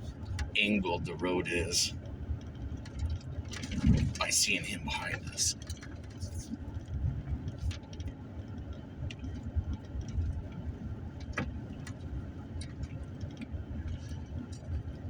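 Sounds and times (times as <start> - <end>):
engine and tyre rumble: 0.0 - 15.0
light clicks and rattles: 2.0 - 15.0.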